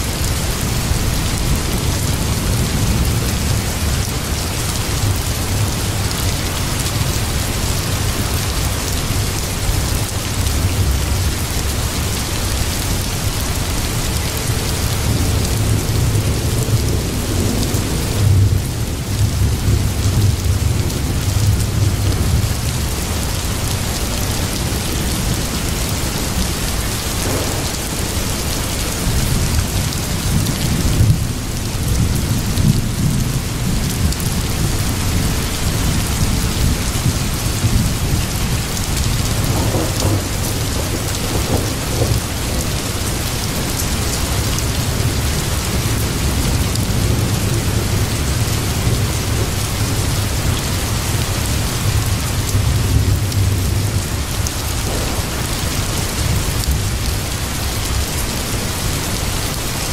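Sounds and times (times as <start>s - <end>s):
steady rain: 0.0s - 59.9s
low rolling thunder: 6.8s - 59.6s.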